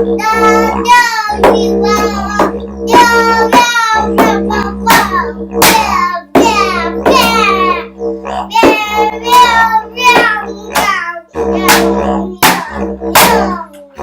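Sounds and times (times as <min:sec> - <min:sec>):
bottle beaten as a drum: 0:00.0 - 0:14.0
didgeridoo droning: 0:00.0 - 0:14.0
high sliding vocal cries: 0:00.0 - 0:14.0.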